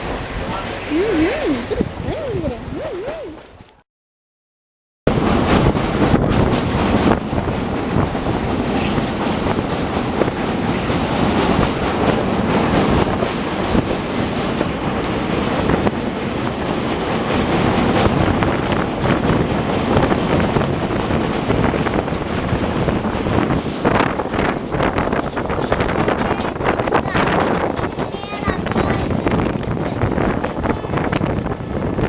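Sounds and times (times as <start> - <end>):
train wheels clattering over rail joints: 5.2 - 32.0.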